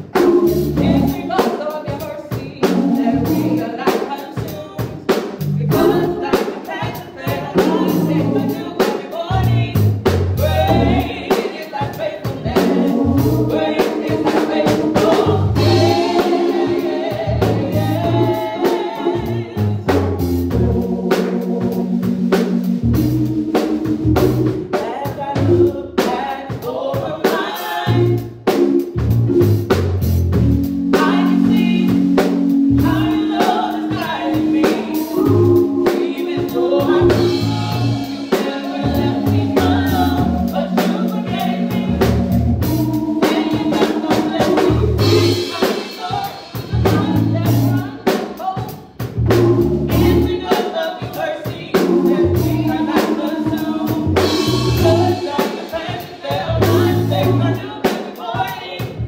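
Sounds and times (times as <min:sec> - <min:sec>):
women singing gospel song: 0:00.0 - 0:22.3, 0:23.5 - 0:28.6, 0:30.9 - 0:59.0
live instrumental backing: 0:00.0 - 0:59.0
steady drum beat: 0:00.0 - 0:59.0.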